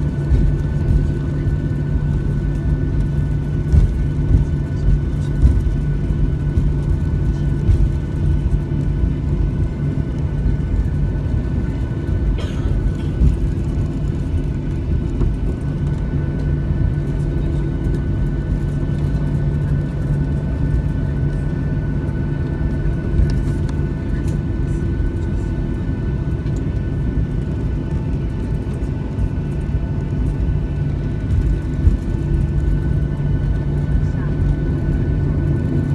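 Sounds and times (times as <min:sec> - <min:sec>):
jet engines idling hum: 0:00.0 - 0:35.9.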